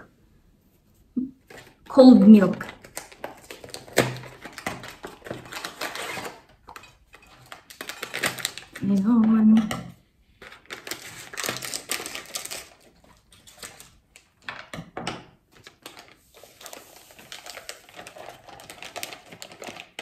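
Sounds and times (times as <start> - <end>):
foil sachet crinkling: 1.4 - 9.2, 10.4 - 14.6, 15.5 - 20.0.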